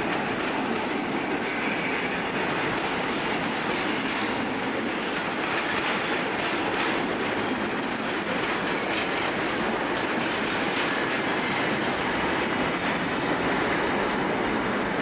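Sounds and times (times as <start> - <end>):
train rolling past on track: 0.0 - 15.0
wheels clicking over rail joints: 2.3 - 14.4.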